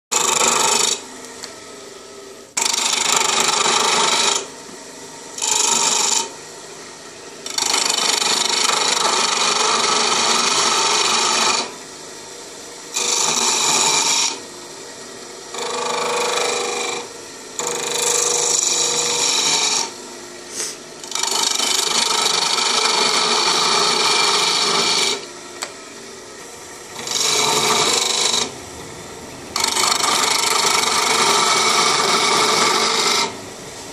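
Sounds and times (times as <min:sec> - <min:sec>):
wood lathe cutting wood: 0:00.1 - 0:33.9.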